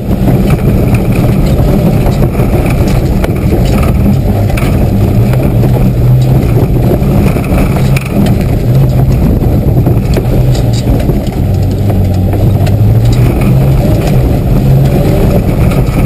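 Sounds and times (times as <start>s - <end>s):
car body knocking and rattling: 0.0s - 16.0s
car engine running hard: 0.0s - 16.0s.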